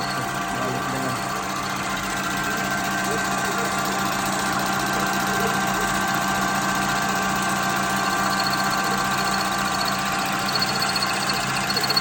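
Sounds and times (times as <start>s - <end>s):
electric motor humming: 0.0s - 12.0s.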